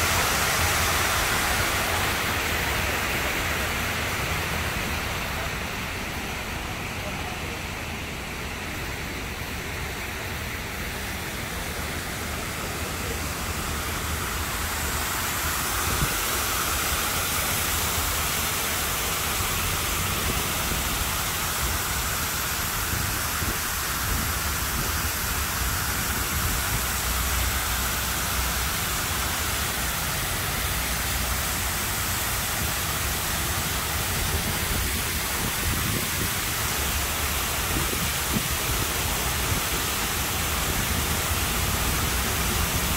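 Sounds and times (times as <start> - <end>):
fountain water rushing and splashing: 0.0 - 42.9.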